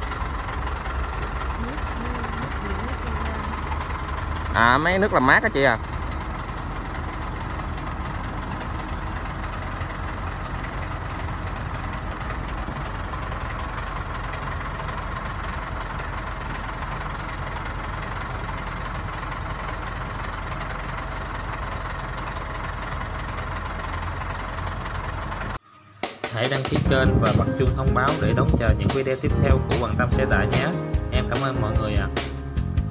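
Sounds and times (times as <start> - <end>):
diesel truck engine idling: 0.0 - 25.6, 26.7 - 32.9.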